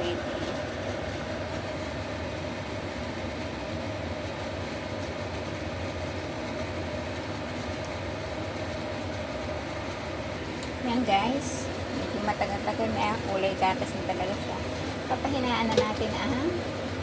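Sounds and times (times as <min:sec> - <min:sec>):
soup boiling and bubbling: 0:00.5 - 0:17.0.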